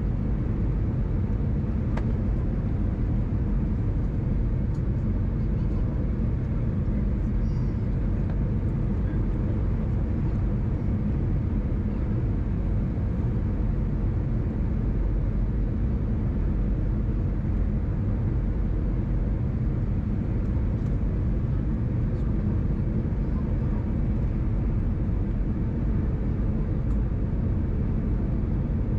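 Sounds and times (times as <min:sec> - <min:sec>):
airliner engine and airflow rumble: 0:00.0 - 0:28.9.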